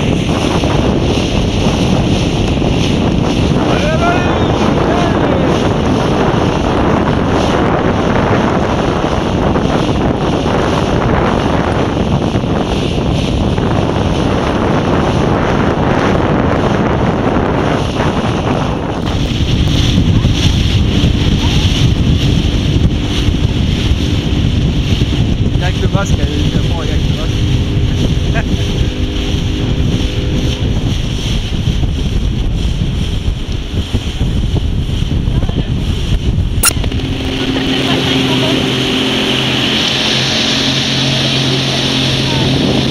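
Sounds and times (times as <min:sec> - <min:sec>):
choppy water: 0:00.0 - 0:42.9
wind buffeting microphone: 0:00.0 - 0:42.9.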